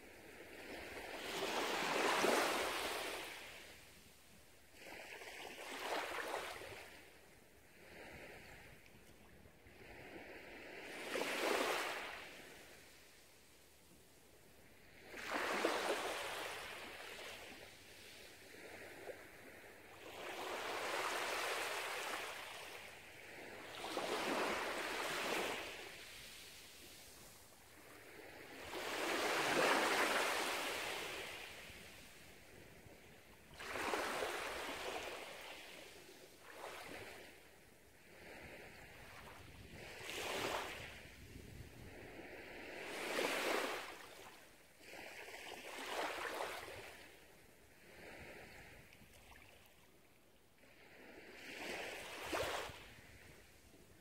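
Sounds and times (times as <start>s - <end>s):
small waves lapping on sand: 0.0s - 54.0s.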